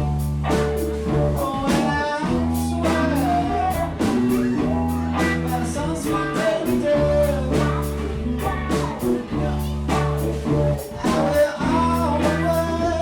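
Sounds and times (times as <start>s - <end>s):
blues-rock band playing: 0.0s - 13.0s
slide guitar gliding notes: 0.0s - 13.0s.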